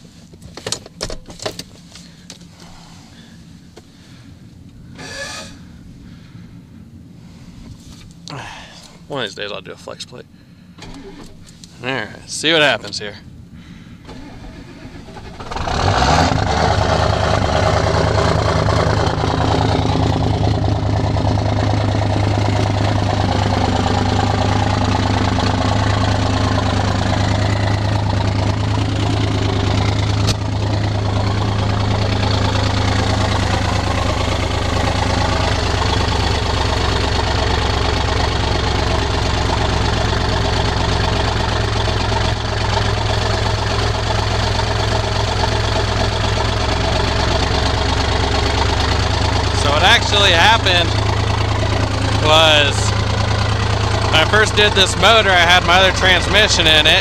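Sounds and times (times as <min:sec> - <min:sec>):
diesel engine starting and idling: 0:01.2 - 0:57.0.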